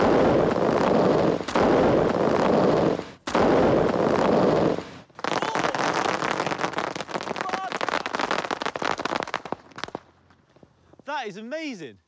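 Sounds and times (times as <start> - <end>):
fireworks crackling blasts: 0.0 - 11.1.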